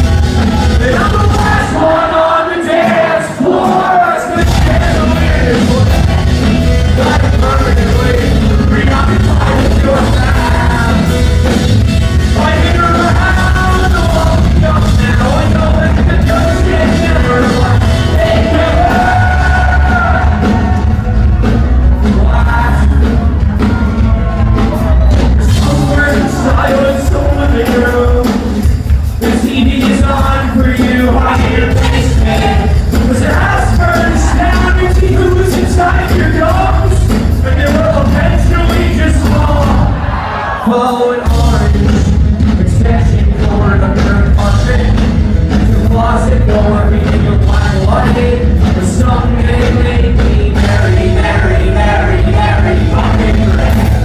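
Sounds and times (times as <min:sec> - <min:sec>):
bass guitar: 0:00.0 - 0:54.0
drums: 0:00.0 - 0:54.0
person singing: 0:00.0 - 0:54.0
electric guitars: 0:04.4 - 0:40.6, 0:41.3 - 0:54.0.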